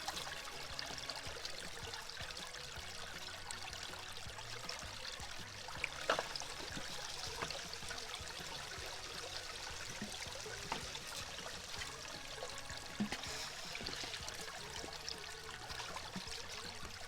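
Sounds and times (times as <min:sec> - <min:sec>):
water pouring through sluice: 0:00.0 - 0:17.0.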